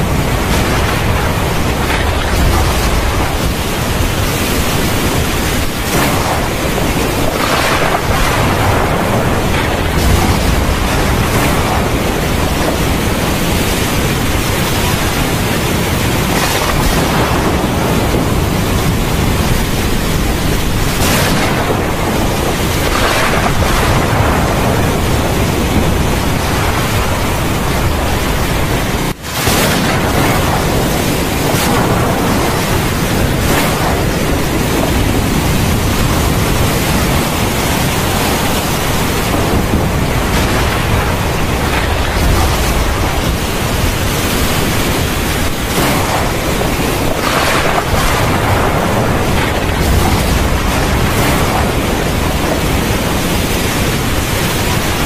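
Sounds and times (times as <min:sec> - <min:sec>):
heavy rain: 0:00.0 - 0:55.0
thunder: 0:00.0 - 0:55.0.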